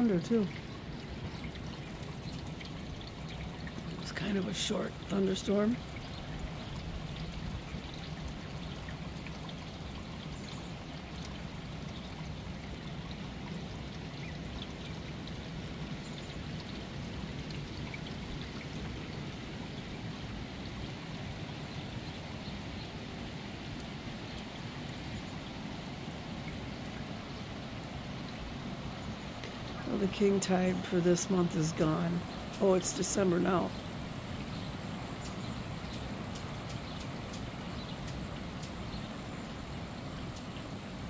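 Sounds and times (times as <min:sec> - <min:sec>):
low steady hum: 0:00.0 - 0:41.0
steady rain falling: 0:00.0 - 0:41.0.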